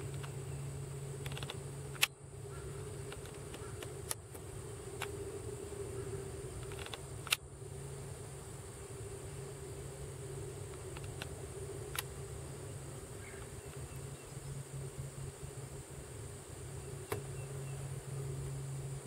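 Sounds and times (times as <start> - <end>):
low hum with high whine: 0.0 - 19.0.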